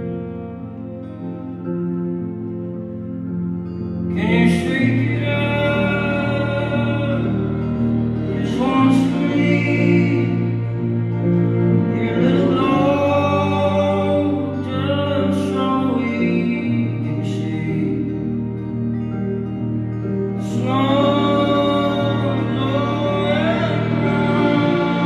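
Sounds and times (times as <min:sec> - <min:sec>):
acoustic guitar: 0:00.0 - 0:25.0
keyboards: 0:00.0 - 0:25.0
low sustained bass notes: 0:00.0 - 0:25.0
person singing: 0:04.0 - 0:19.2, 0:19.8 - 0:25.0.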